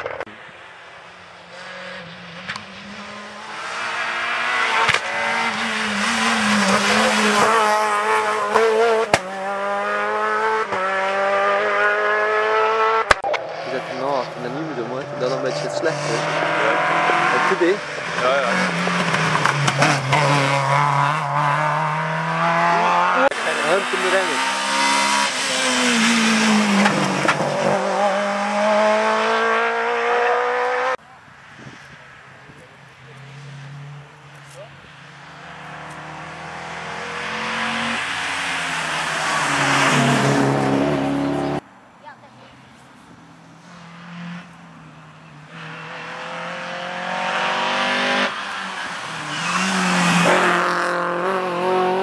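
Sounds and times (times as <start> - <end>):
rally car engine passing: 0.0 - 41.8, 42.5 - 52.0.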